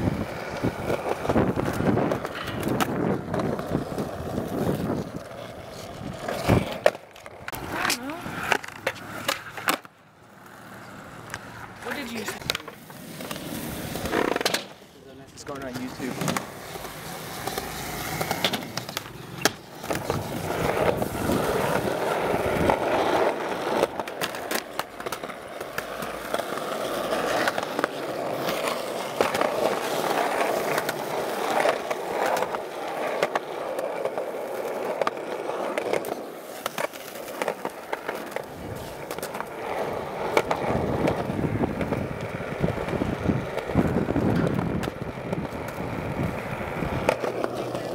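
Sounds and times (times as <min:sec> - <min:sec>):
skateboard wheels rolling on concrete: 0:00.0 - 0:47.9.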